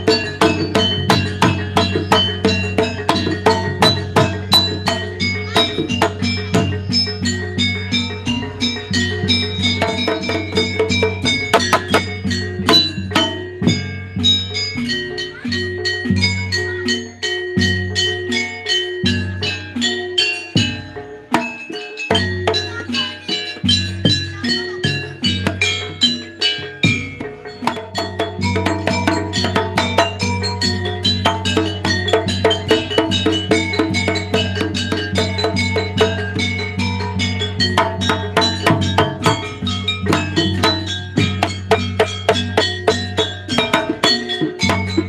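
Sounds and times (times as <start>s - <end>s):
gamelan metallophones and drums: 0.0s - 45.0s.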